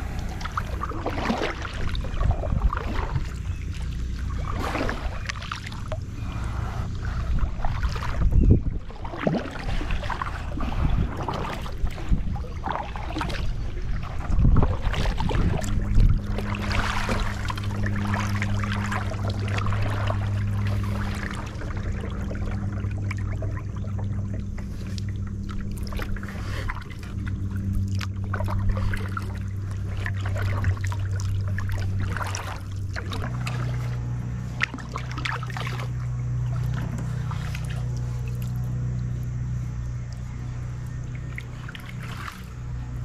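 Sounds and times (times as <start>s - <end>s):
kayak paddle splashing: 0.0s - 43.0s
lawnmower engine drone: 0.0s - 43.0s.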